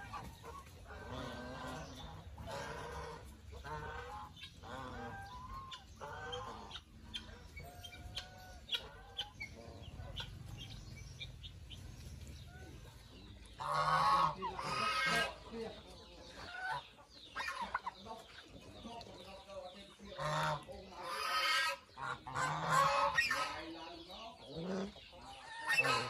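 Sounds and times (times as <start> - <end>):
geese honking: 0.0 - 10.8, 13.5 - 18.4, 20.0 - 26.0
quiet chirps and clucks: 0.0 - 26.0.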